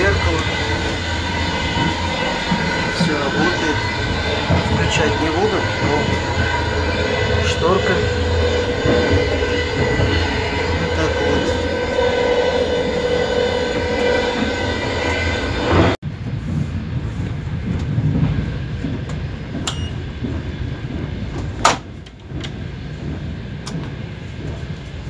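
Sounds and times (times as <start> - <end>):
train mechanical hum: 0.0 - 25.0
train rumble: 0.0 - 25.0.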